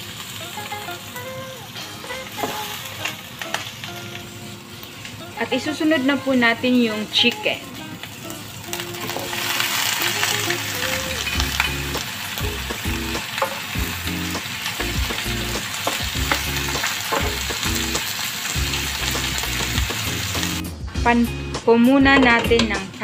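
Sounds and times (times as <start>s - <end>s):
chicken sizzling in hot oil: 0.0s - 20.6s.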